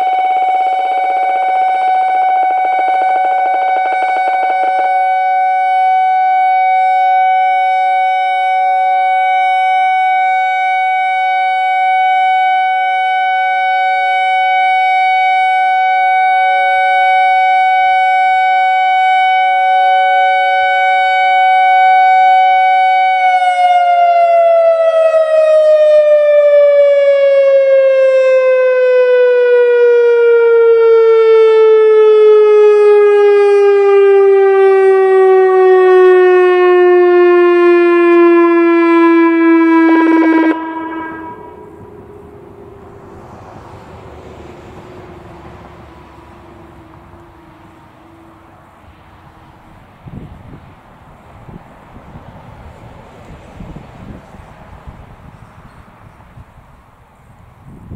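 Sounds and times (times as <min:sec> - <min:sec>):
electronic siren tone: 0:00.0 - 0:48.6.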